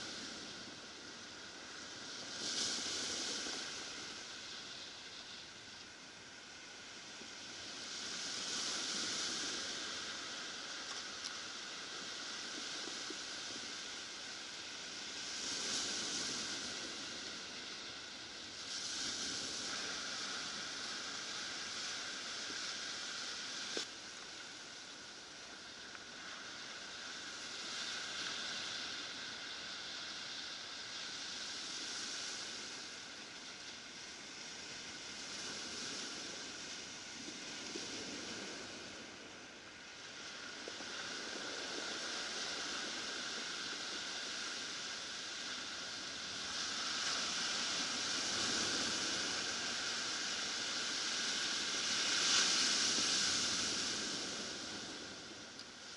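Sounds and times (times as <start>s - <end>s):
surf on cobble beach: 0.0s - 55.9s.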